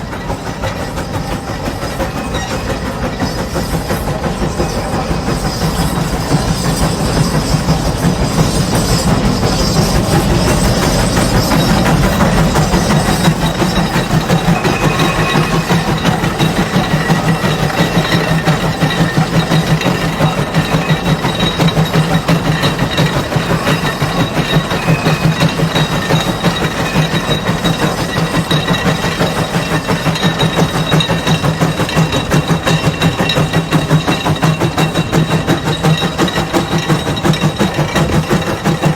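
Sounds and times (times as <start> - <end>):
steam engine exhaust chuffing: 0.0 - 38.9.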